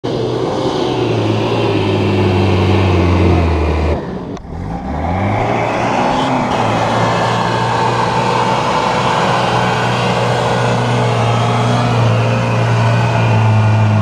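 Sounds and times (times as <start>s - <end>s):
suv engine revving uphill: 0.0s - 14.0s.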